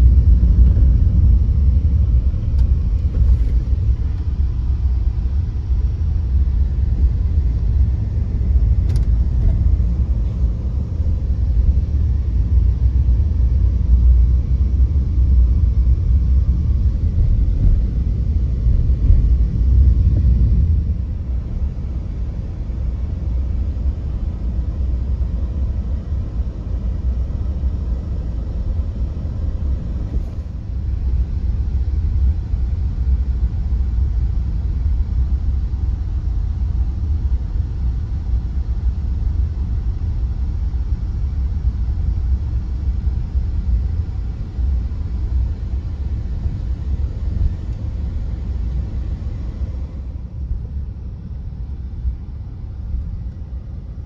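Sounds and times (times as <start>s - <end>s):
low rumble: 0.0s - 54.0s.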